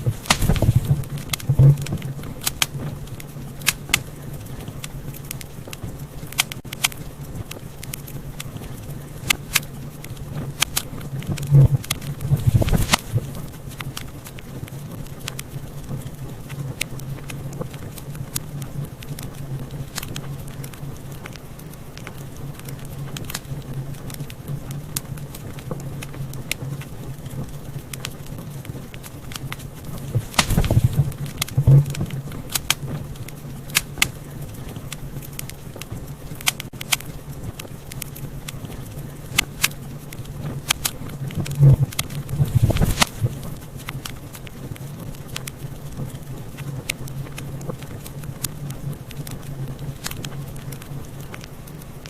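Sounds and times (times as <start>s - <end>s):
low steady rumble: 0.0s - 52.0s
wood fire crackling and popping: 0.0s - 52.0s.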